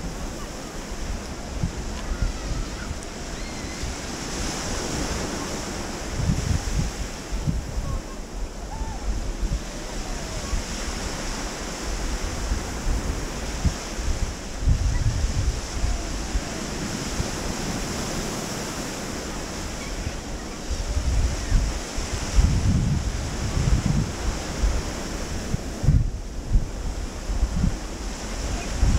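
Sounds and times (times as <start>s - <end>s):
small waves washing onto beach: 0.0s - 28.9s
wind gusting on microphone: 0.0s - 28.9s.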